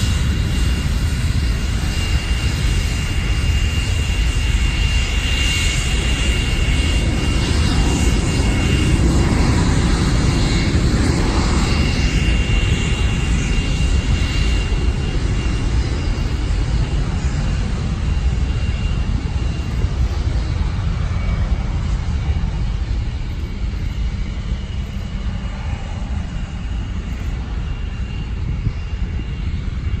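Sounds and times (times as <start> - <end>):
jet engines rumbling and whining: 0.0 - 30.0.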